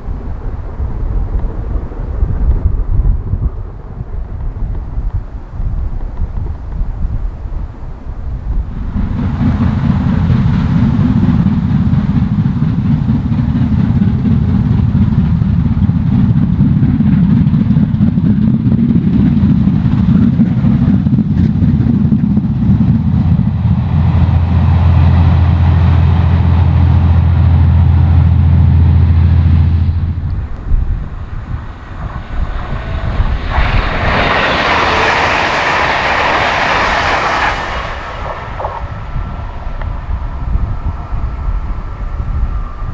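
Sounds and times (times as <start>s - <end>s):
low engine hum: 0.0s - 42.9s
wind buffeting microphone: 0.0s - 42.9s.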